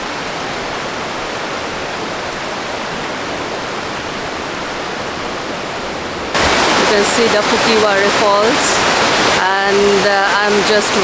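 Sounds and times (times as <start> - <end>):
waterfall rushing roar: 0.0 - 11.0.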